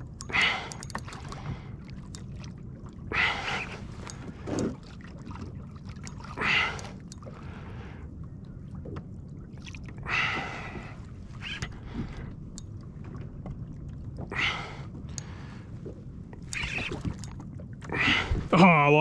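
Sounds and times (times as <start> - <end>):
water sloshing against kayak hull: 0.0 - 19.0.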